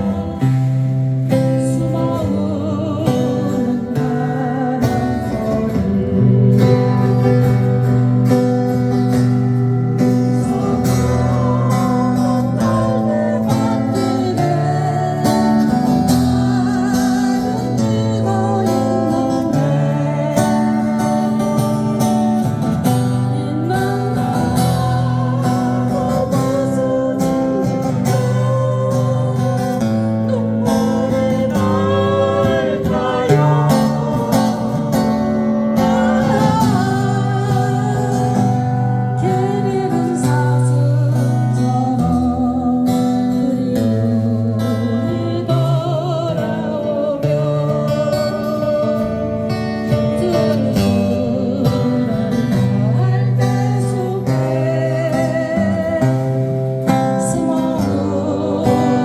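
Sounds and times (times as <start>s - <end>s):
person singing: 0.0s - 59.0s
strummed acoustic guitar: 0.0s - 59.0s.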